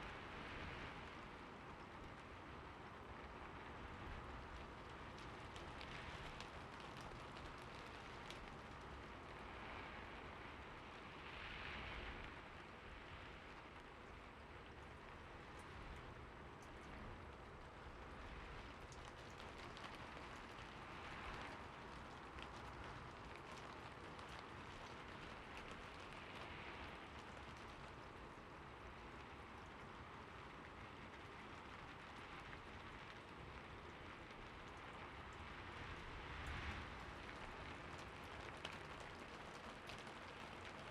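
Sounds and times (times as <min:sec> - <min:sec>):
light rain falling: 0:00.0 - 0:40.9
raindrop ticks: 0:00.1 - 0:40.9.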